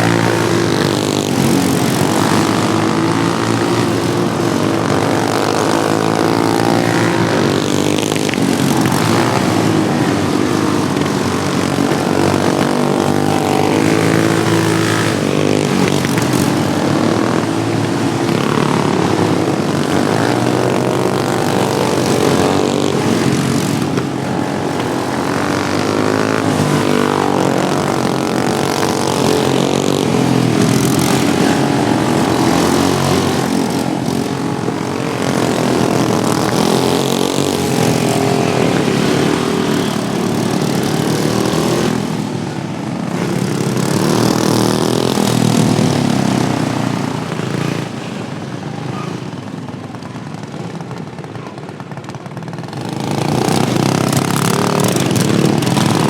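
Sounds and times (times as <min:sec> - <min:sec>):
racing lawnmower engines revving: 0:00.0 - 0:56.0.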